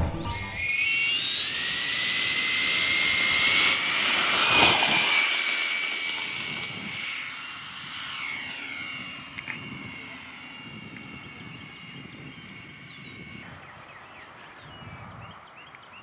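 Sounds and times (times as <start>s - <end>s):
model jet engines whining: 0.0s - 13.5s.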